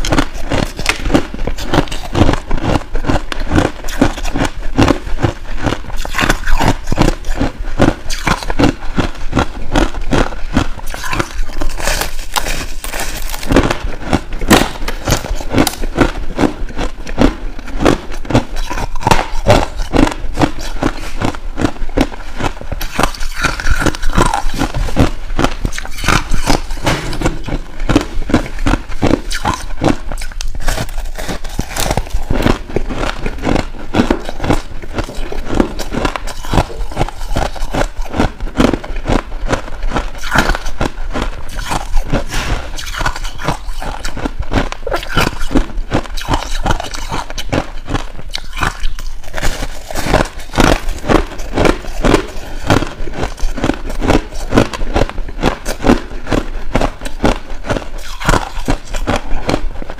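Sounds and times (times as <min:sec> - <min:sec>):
crunching crushed ice: 0:00.0 - 0:59.9.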